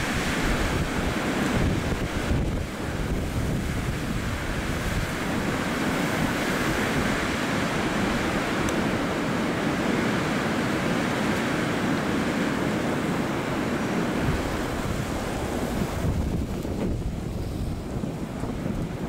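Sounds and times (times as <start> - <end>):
wind blowing through trees: 0.0 - 19.0
wind buffeting microphone: 0.0 - 19.0.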